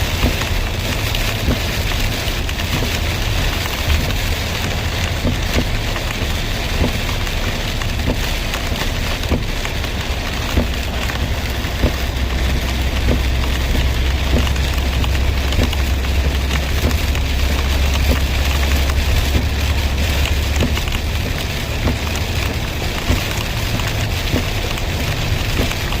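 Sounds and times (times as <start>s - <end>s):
heavy low rumble: 0.0s - 26.0s
steady rain falling: 0.0s - 26.0s.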